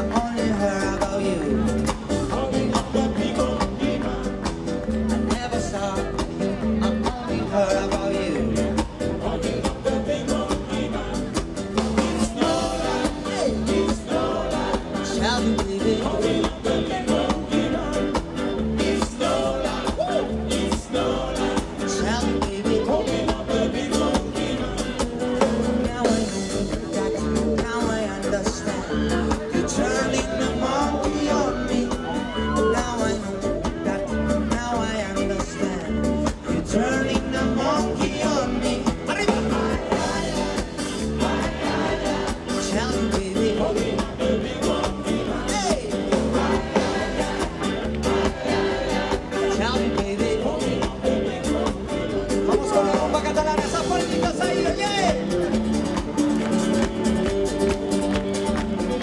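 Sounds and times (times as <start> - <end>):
man singing: 0.0 - 57.1
drum kit beat: 0.0 - 59.0
electric bass and guitar: 0.0 - 59.0
live band playing: 0.0 - 59.0.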